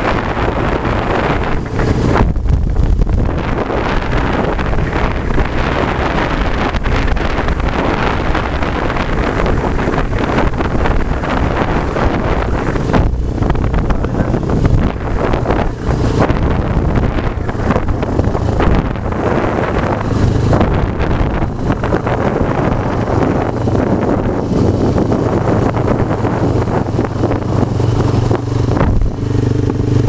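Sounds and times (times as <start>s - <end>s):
motorcycle engine rumble: 0.0s - 30.0s
wind buffeting microphone: 0.0s - 30.0s.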